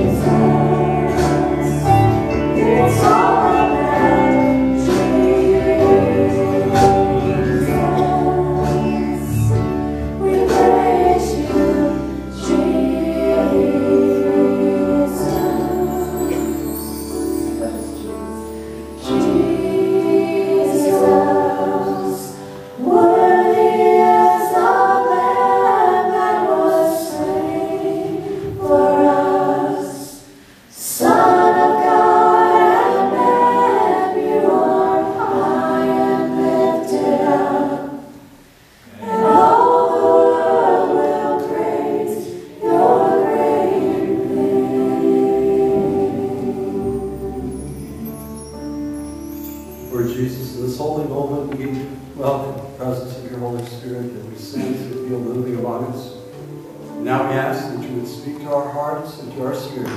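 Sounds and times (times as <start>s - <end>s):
group singing gospel song: 0.0s - 48.6s, 49.4s - 59.9s.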